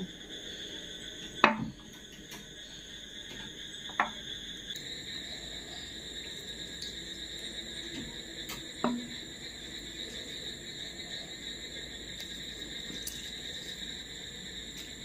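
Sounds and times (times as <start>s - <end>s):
steady high-pitched whine: 0.0s - 15.0s.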